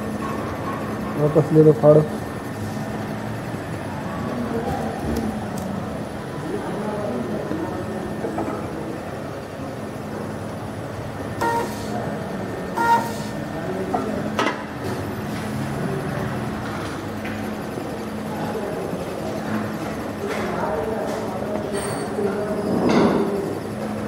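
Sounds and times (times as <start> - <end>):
labeling machine motor hum: 0.0 - 24.0.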